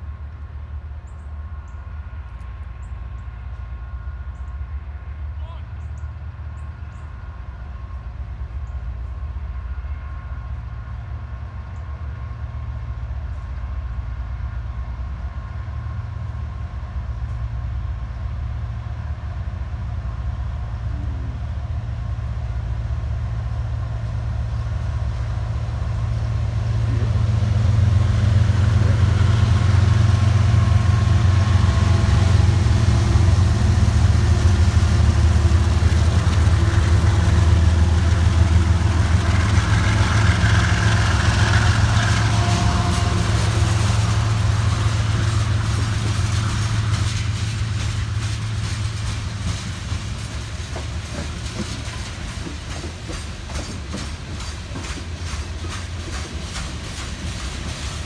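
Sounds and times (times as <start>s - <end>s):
diesel locomotive engines droning: 0.0s - 58.0s
train wheels on rails: 5.8s - 58.0s.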